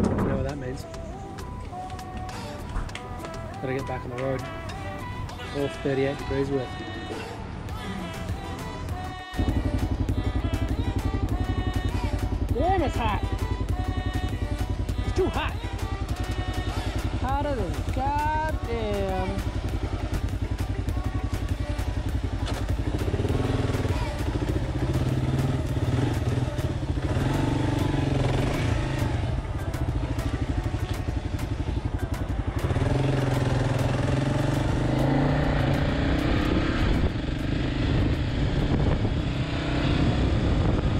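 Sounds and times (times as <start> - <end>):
motorcycle engine pulling away: 7.5 - 40.9.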